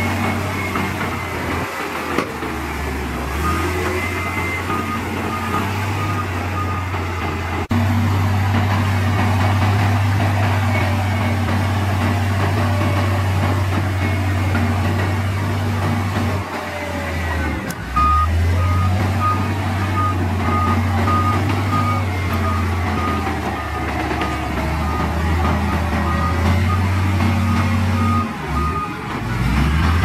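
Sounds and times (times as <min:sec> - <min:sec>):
reversing alarm beeping: 0:00.0 - 0:07.7, 0:09.6 - 0:16.5, 0:17.2 - 0:30.0
heavy diesel engines running: 0:00.0 - 0:30.0.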